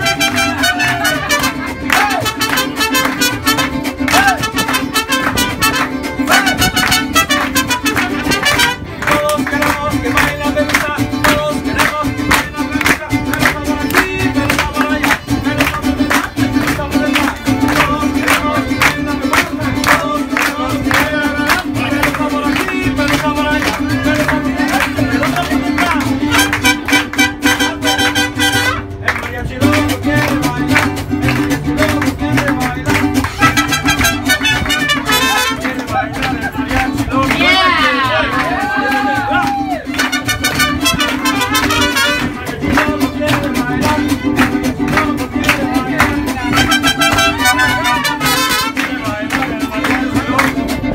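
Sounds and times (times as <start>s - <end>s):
mariachi band playing: 0.0s - 50.9s
strummed guitars: 0.0s - 50.9s.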